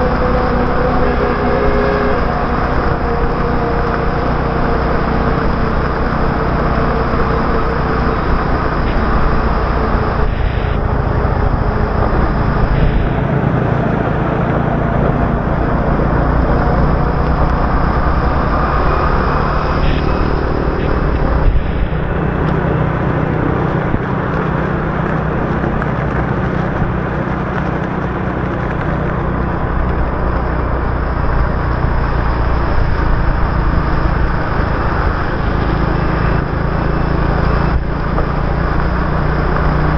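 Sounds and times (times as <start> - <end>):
motorbike engine running: 0.0 - 39.9
road and traffic noise: 0.0 - 39.9.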